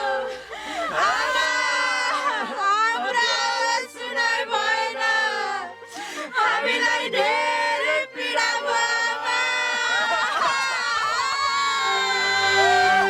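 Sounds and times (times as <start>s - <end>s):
group of people singing: 0.0s - 10.7s, 11.8s - 13.0s.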